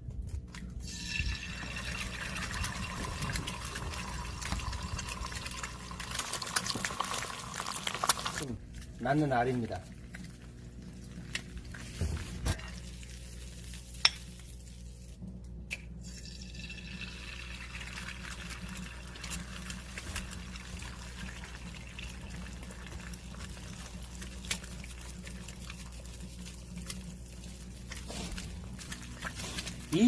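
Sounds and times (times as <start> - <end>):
food simmering with bubbling hiss: 0.8 - 30.0.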